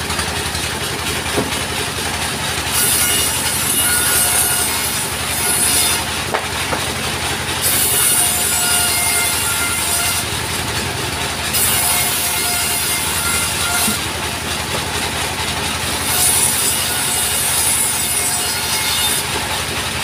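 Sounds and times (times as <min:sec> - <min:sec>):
saw cutting through log: 0:00.0 - 0:20.0
sawmill engine running: 0:00.0 - 0:20.0.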